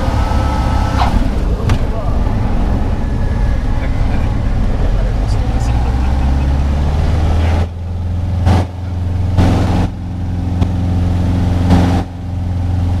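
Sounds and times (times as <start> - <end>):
aircraft engine and propeller: 0.0 - 13.0.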